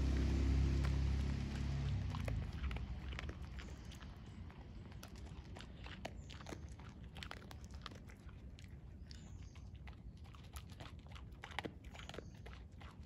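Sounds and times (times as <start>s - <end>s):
dog crunching dry kibble: 0.0s - 13.0s.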